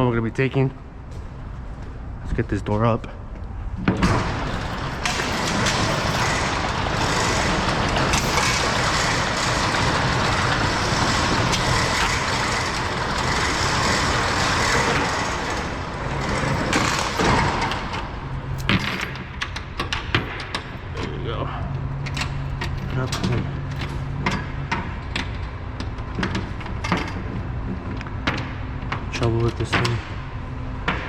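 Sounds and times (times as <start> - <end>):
roll-up door mechanical noise: 3.5 - 31.0.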